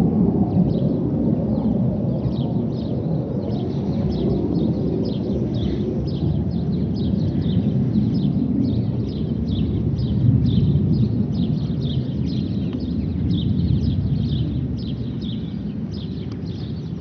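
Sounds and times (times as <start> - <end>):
distant fighter jets rumbling: 0.0 - 17.0
small birds chirping: 1.6 - 17.0.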